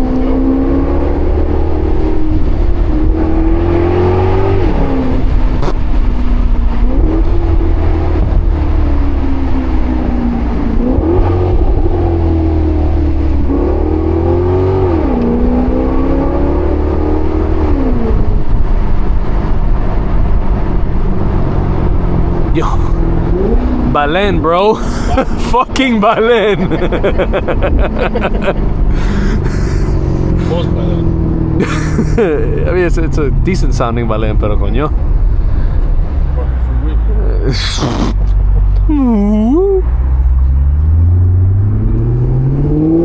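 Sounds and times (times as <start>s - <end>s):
car engine accelerating: 0.0s - 43.0s
deep exhaust rumble: 0.0s - 43.0s.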